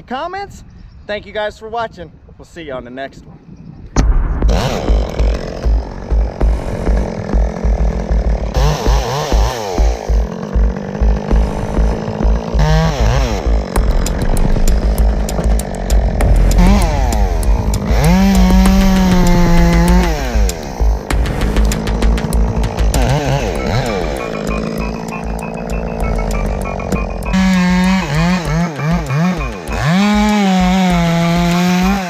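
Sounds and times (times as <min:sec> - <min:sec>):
chainsaw idling and revving: 0:04.5 - 0:32.0.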